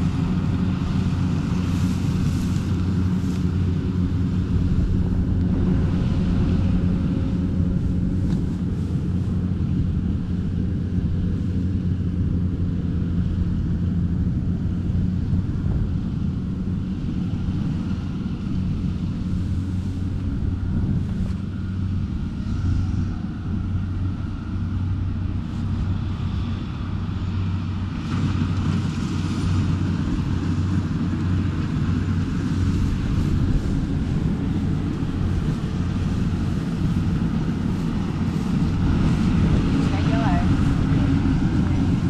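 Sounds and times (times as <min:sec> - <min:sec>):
combine harvester engine running: 0:00.0 - 0:42.0
wind rumbling on microphone: 0:00.0 - 0:42.0.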